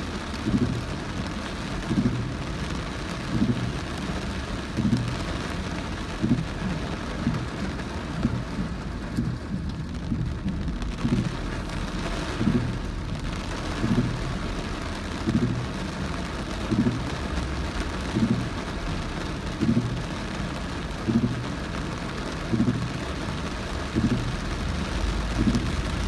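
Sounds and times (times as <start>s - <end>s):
heavy rain on a car: 0.0s - 26.0s
windscreen wipers thudding: 0.0s - 26.0s.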